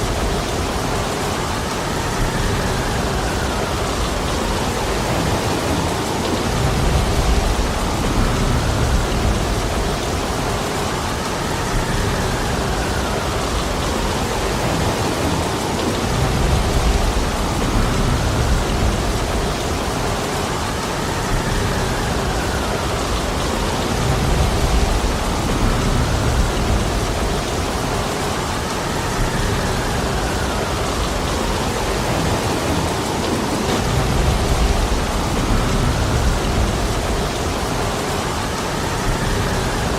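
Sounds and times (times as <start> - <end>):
gusting wind: 0.0 - 39.9
heavy rain falling: 0.0 - 39.9.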